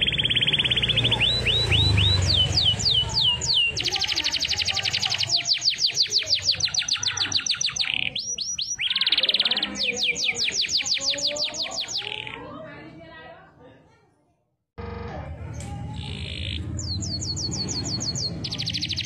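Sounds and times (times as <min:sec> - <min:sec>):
canary singing: 0:00.0 - 0:12.6, 0:15.6 - 0:19.0.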